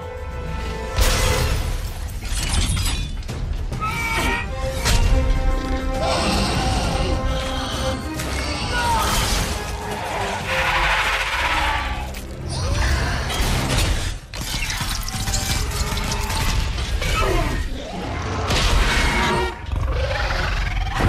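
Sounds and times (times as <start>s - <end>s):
film score music: 0.0s - 21.0s.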